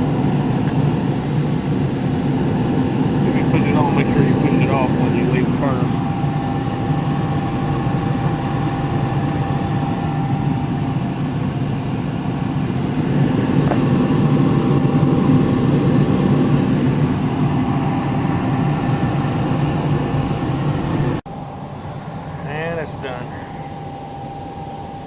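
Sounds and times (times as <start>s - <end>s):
furnace humming: 0.0s - 25.0s.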